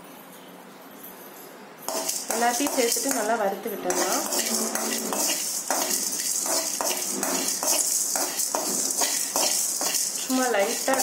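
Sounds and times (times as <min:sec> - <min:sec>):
spoon scraping spices in metal pan: 0:01.9 - 0:11.0.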